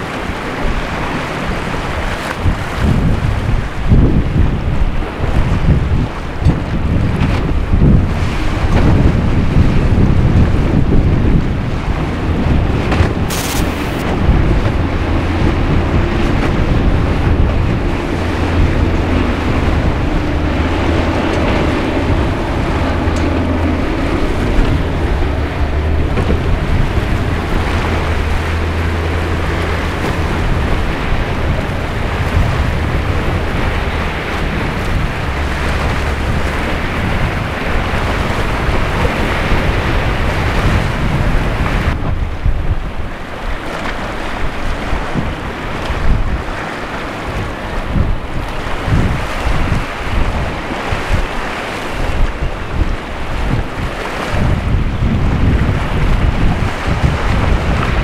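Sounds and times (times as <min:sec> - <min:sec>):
surf and breaking waves: 0:00.0 - 0:58.0
wind buffeting microphone: 0:00.0 - 0:58.0.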